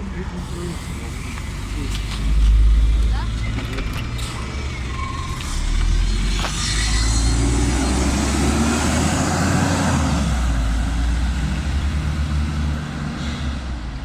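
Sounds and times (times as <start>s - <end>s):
bus engine drone: 0.0s - 14.0s
road and tyre noise: 0.0s - 14.0s.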